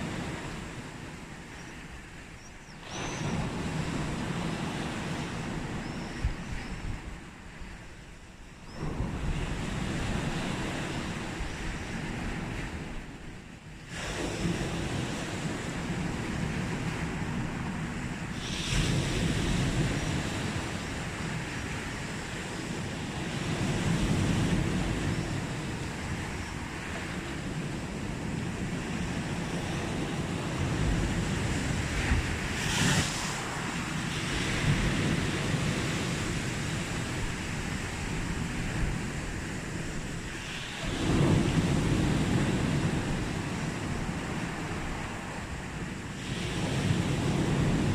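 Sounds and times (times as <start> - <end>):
sea waves breaking on beach: 0.0 - 47.9.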